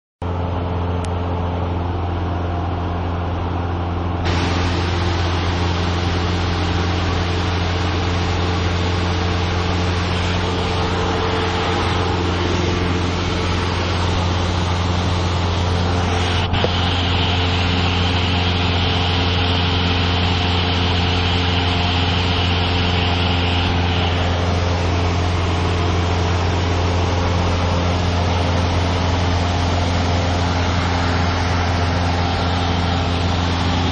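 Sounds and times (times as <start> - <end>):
light aircraft engine droning: 0.2 - 33.9
rush of air noise: 4.2 - 33.9.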